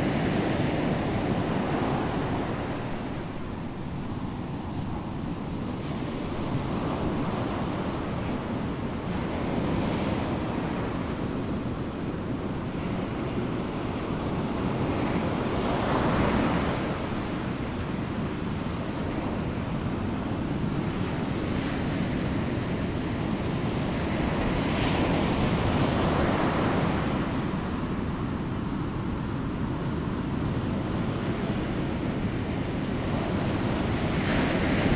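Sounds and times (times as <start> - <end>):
wind: 0.0 - 34.9.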